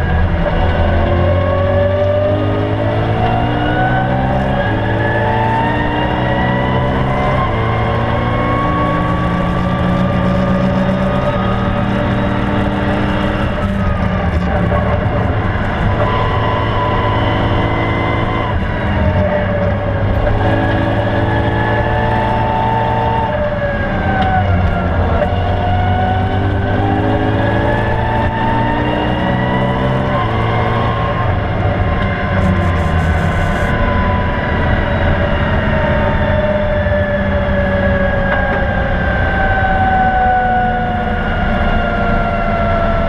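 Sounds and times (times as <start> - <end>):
car engine revving: 0.0 - 43.0
road and tyre noise: 0.0 - 43.0.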